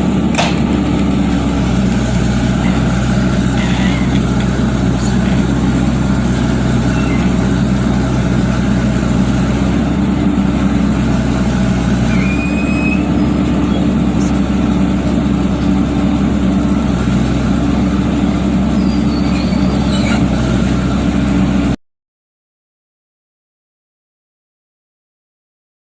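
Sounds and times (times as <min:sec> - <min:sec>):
diesel engine running: 0:00.0 - 0:21.8.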